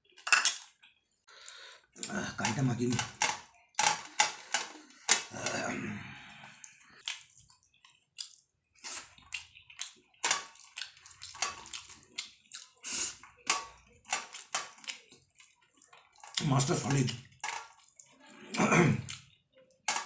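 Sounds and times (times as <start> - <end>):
wet squishing of food by hand: 0.0 - 5.1, 6.1 - 19.9.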